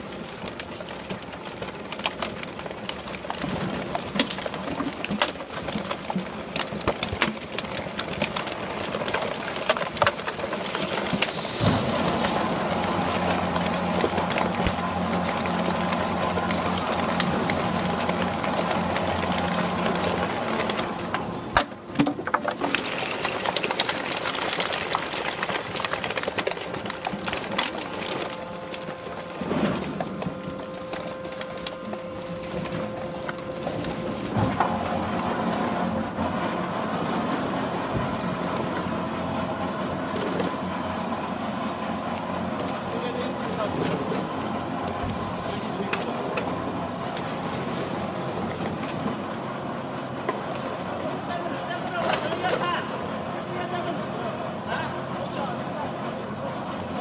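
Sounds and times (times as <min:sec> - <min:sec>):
plastic bottles crackling when crushed: 0:00.0 - 0:53.5
machine hum: 0:00.0 - 0:57.0.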